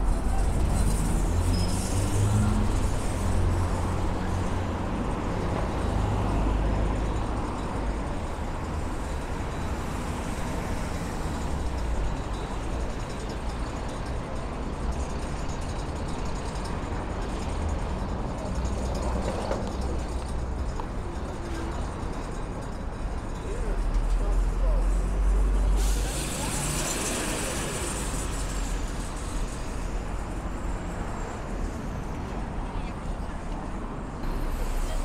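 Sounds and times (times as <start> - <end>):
city street traffic rumble: 0.0 - 35.0.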